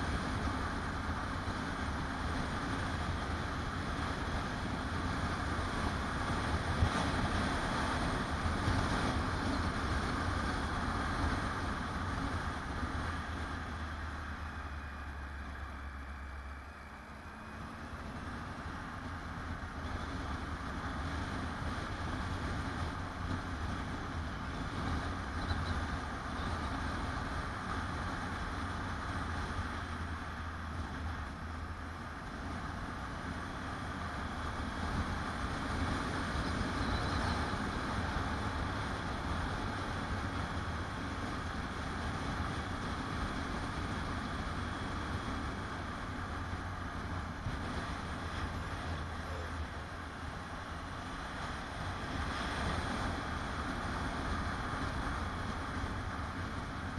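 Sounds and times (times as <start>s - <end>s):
motorcycle engine cruising: 0.0s - 56.9s
wind rushing over microphone: 0.0s - 56.9s.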